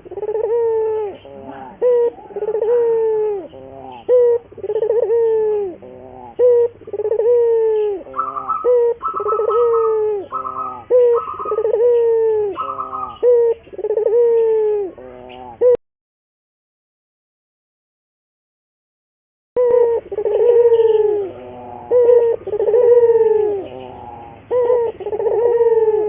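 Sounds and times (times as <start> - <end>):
dove cooing: 0.0 - 15.8, 19.6 - 26.0.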